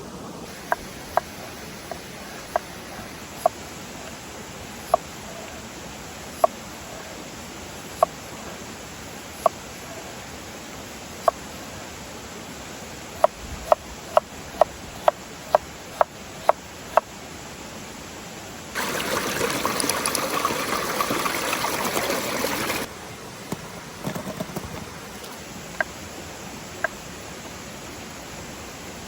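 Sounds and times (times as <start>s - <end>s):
loud steady hiss: 0.0s - 29.0s.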